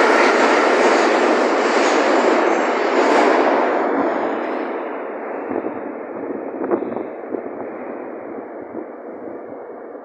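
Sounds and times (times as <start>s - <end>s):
metro train pulling away: 0.0s - 10.0s.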